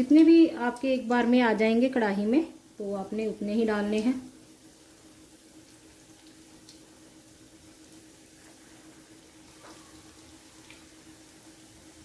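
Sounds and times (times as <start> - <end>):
faint steady hum: 0.0 - 12.0
food deep-frying in bubbling oil: 0.0 - 12.0.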